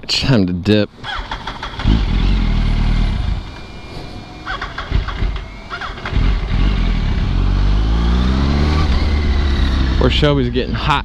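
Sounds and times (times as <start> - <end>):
motorcycle engine at low revs: 0.9 - 11.0.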